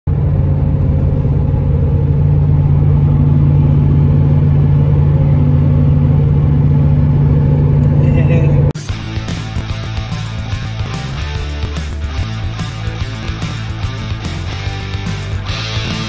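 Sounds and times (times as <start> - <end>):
vehicle cabin engine and road drone: 0.1 - 16.0.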